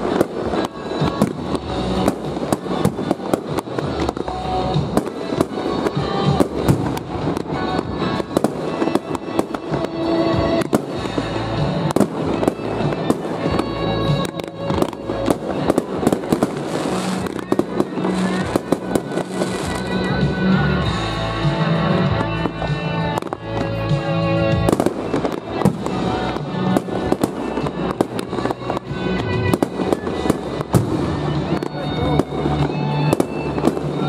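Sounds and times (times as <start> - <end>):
fireworks bursting and crackling: 0.0 - 34.0
music playing: 0.0 - 34.0.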